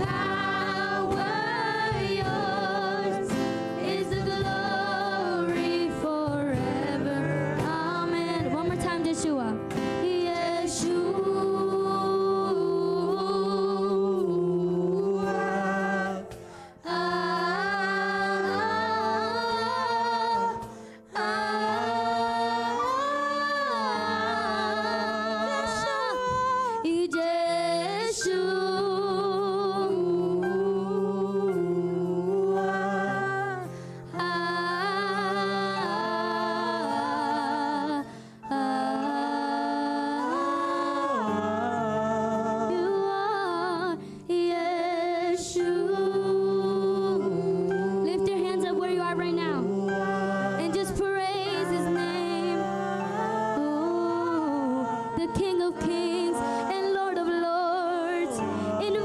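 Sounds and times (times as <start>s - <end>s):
vocal group singing in harmony: 0.0s - 59.0s.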